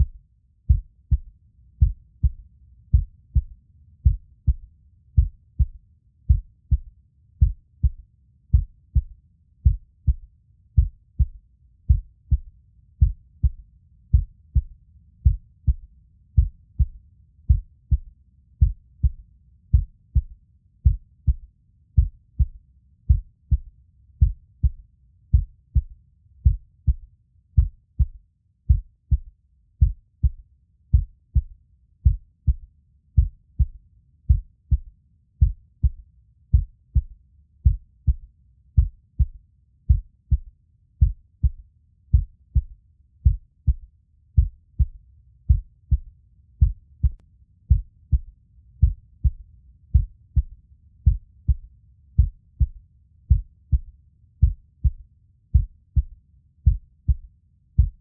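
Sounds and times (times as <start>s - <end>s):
heartbeat thumping: 0.0s - 58.0s.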